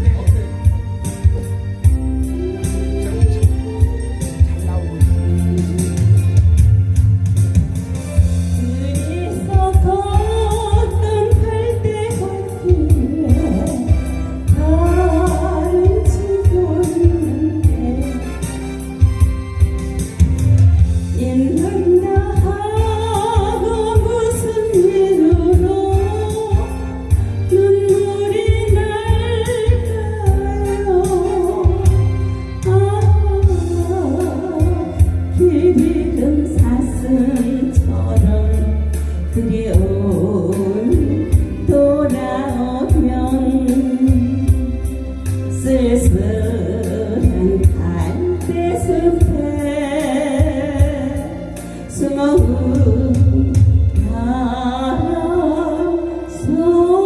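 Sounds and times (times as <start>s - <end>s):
woman singing ballad with vibrato: 0.0s - 7.0s, 7.8s - 57.0s
backing music with beat and bass: 0.0s - 57.0s.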